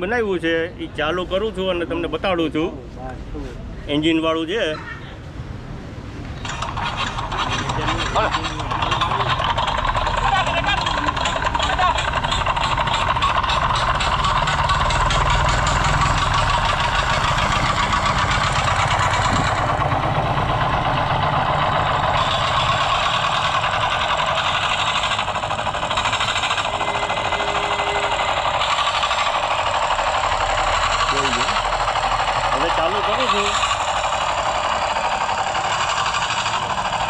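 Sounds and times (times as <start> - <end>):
small engine buzzing: 6.4 - 37.0.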